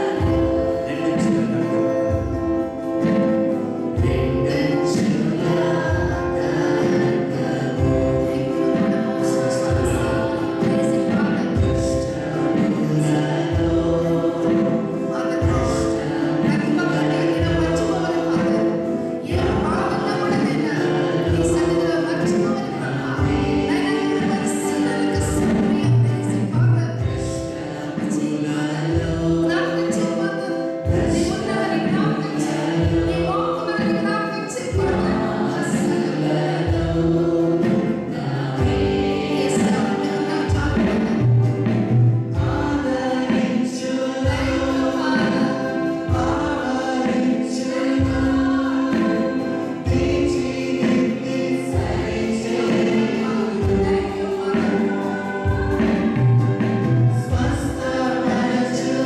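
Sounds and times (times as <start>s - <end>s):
band accompaniment: 0.0s - 59.0s
congregation singing in unison: 0.0s - 59.0s.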